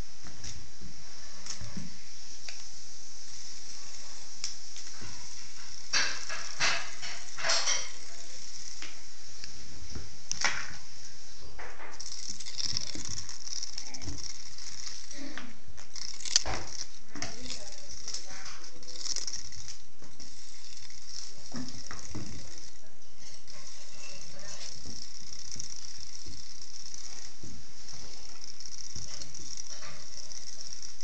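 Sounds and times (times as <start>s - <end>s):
cat paws and toy on wooden floor: 0.0s - 31.0s.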